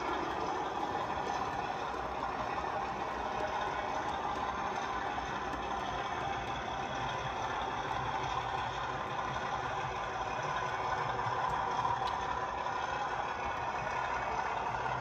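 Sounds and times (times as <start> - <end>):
model train drone: 0.0 - 15.0.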